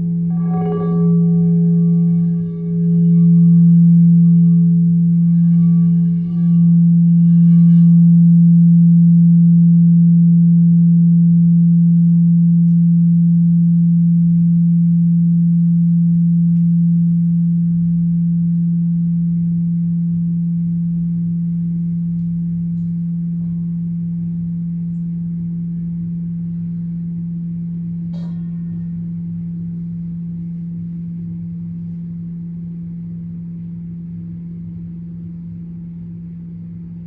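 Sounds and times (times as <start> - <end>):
sustained low ringing tone: 0.0 - 37.0.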